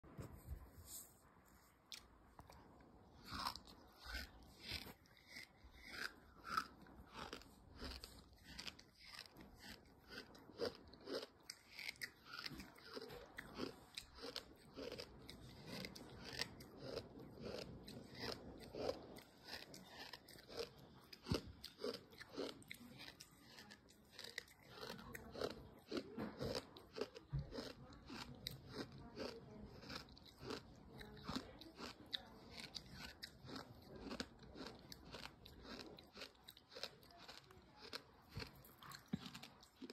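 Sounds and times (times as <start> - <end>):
chewing gritty sand: 1.7 - 39.9.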